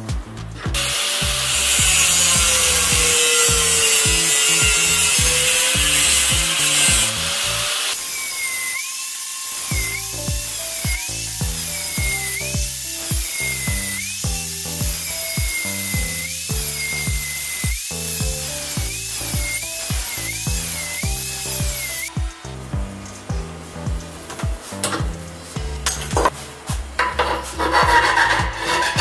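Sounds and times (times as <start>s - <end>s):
background music with steady beat: 0.0s - 29.0s
angle grinder cutting steel: 0.7s - 22.4s, 27.0s - 29.0s.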